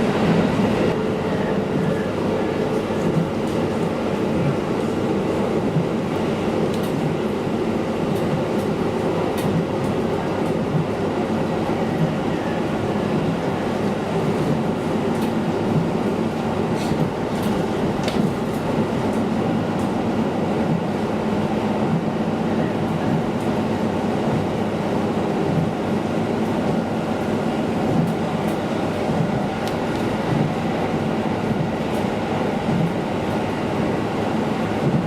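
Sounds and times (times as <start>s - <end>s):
diesel railcar engine drone: 0.0s - 35.0s.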